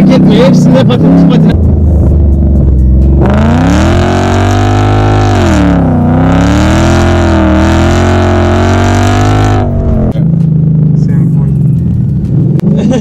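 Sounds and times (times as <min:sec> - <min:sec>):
car engine revving high: 0:00.0 - 0:11.6.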